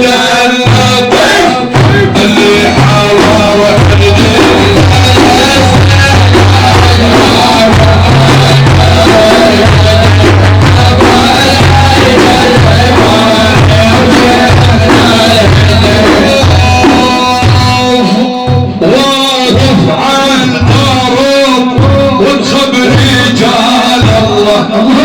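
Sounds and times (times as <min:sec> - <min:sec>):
drums and bass beat: 0:00.0 - 0:25.0.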